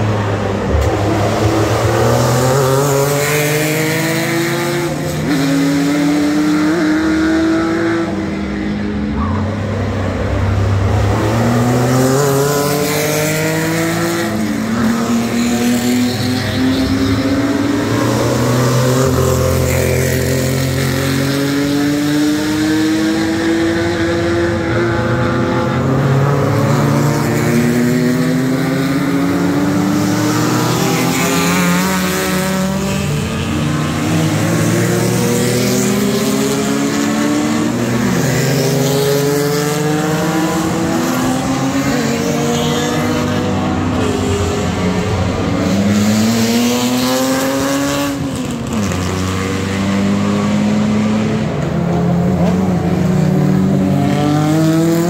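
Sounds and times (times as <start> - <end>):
racing cars accelerating past: 0.0 - 55.0.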